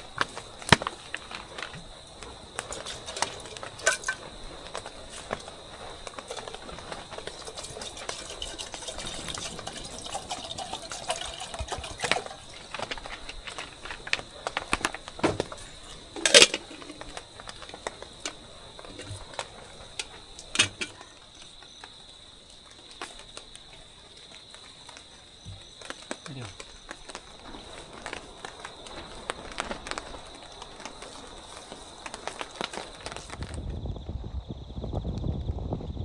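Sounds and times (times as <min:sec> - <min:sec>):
movement through undergrowth: 0:00.0 - 0:33.8
high insect drone: 0:00.0 - 0:36.0.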